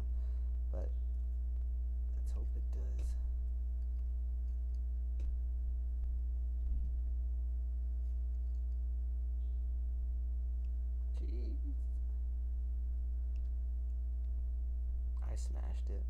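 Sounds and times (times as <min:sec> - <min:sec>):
faint steady tones: 0:00.0 - 0:16.0
low electrical hum: 0:00.0 - 0:16.0.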